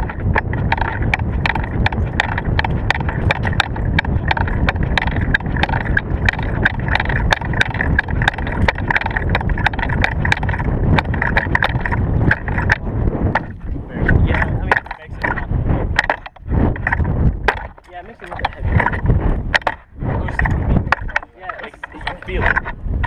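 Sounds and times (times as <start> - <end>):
hands clacking on drill rifle: 0.0 - 12.8, 16.0 - 19.8, 20.4 - 22.7
low handling rumble: 0.0 - 23.0.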